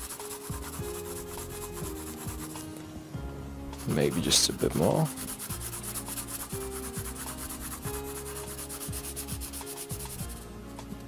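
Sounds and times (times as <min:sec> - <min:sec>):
pencil scratching on paper: 0:00.0 - 0:02.8, 0:03.8 - 0:10.4.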